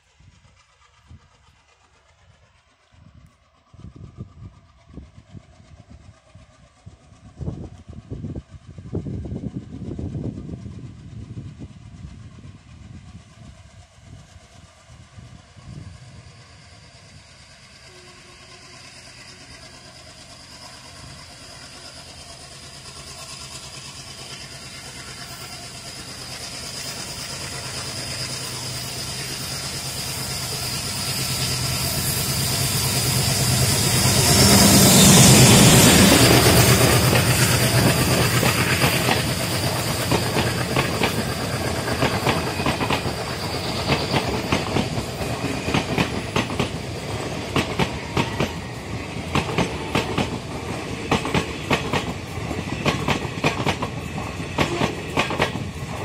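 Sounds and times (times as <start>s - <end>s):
diesel locomotive engine: 0.0s - 56.0s
train wheels rolling: 0.0s - 56.0s.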